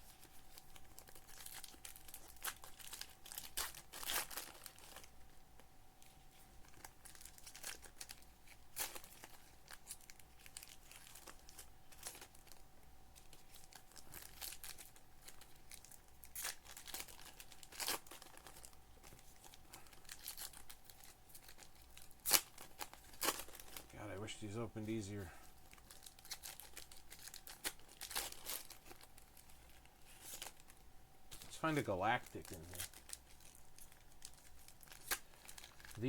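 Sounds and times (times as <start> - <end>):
wrappers tearing and crinkling: 0.0 - 5.3, 6.0 - 36.0
faint steady hum: 0.0 - 36.0.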